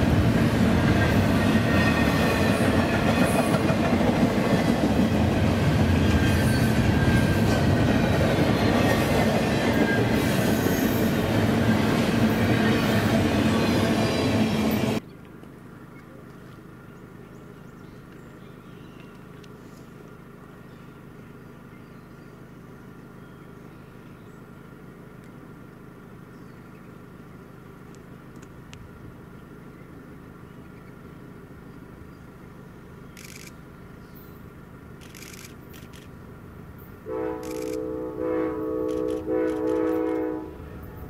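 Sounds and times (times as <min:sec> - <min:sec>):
distant train rumble: 0:00.0 - 0:41.0.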